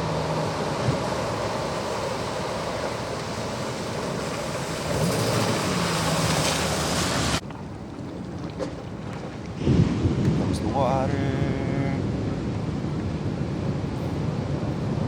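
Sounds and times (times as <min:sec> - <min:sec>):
heavy surf rushing: 0:00.0 - 0:07.4, 0:09.1 - 0:15.0
wind buffeting microphone: 0:00.0 - 0:15.0.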